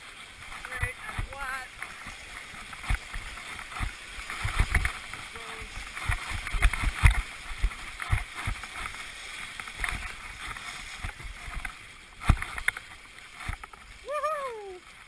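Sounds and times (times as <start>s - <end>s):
whitewater rushing and splashing: 0.0s - 15.0s.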